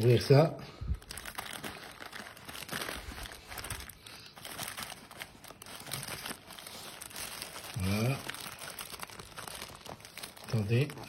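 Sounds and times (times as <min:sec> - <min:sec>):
packaging crinkling and rustling: 0:00.0 - 0:11.0
packaging tearing: 0:00.9 - 0:11.0.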